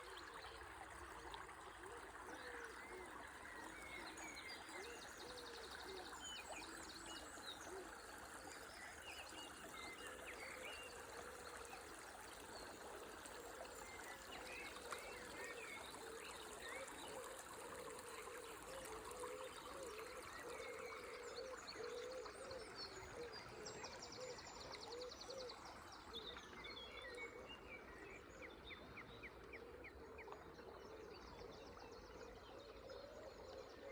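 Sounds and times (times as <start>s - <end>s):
river water trickling: 0.0s - 33.9s.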